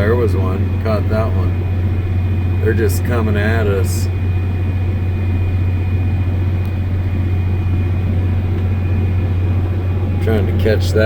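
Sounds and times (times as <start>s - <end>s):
faint high whine: 0.0s - 11.0s
tractor engine running under load: 0.0s - 11.0s.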